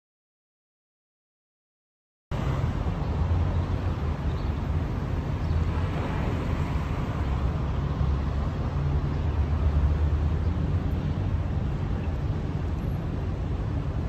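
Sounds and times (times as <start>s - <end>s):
city street noise: 2.3s - 14.0s.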